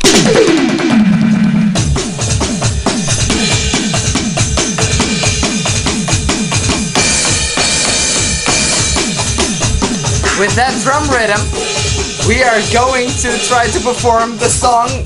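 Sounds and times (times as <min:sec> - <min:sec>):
drum kit playing quick rhythm: 0:00.0 - 0:15.0.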